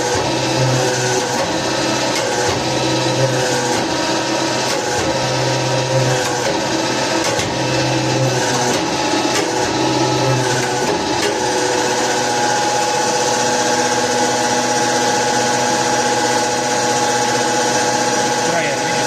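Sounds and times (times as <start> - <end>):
deeper hum: 0.0 - 17.1
press motor running: 0.0 - 19.0.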